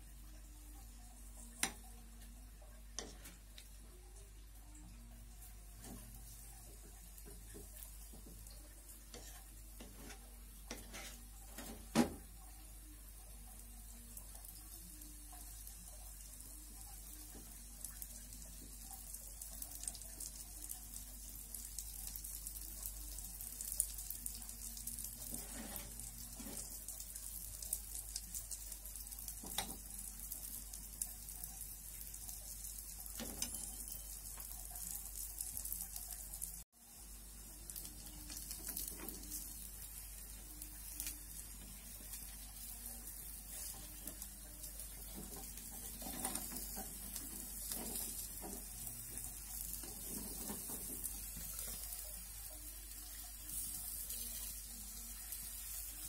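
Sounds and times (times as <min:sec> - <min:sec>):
batter sizzling in a pan: 0:00.0 - 0:56.0.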